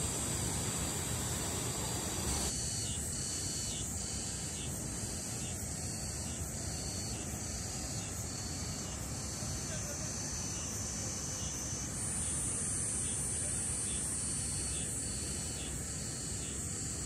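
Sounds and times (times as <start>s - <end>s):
thin high steady hiss: 0.0s - 17.0s.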